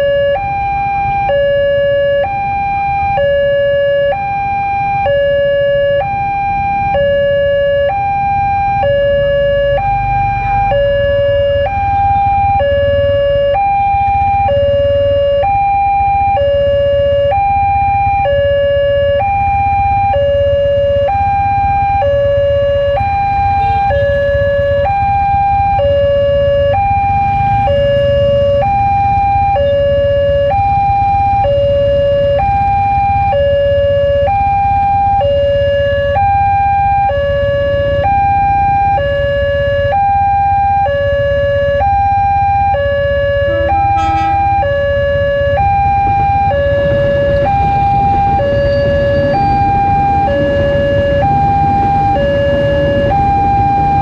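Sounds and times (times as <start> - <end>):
motorbikes and street traffic: 0.0 - 54.0
two-tone crossing alarm chime: 0.0 - 54.0.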